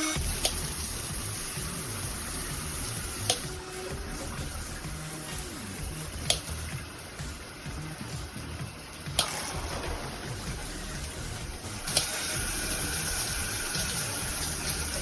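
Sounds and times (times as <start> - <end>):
shower head spraying water: 0.0 - 15.0.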